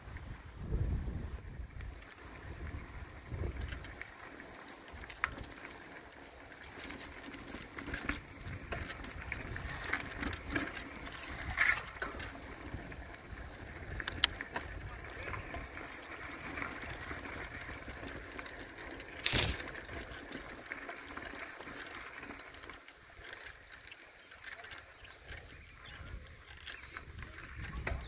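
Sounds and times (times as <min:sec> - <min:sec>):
bicycle tyre and frame rattle: 0:00.0 - 0:28.0.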